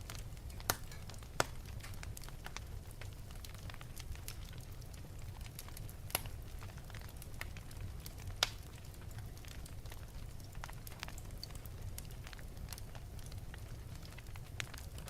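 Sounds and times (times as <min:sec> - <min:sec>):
sharp pops of fire: 0:00.0 - 0:13.4
fire rumbling: 0:00.0 - 0:15.0
wood fire crackling: 0:00.0 - 0:15.0.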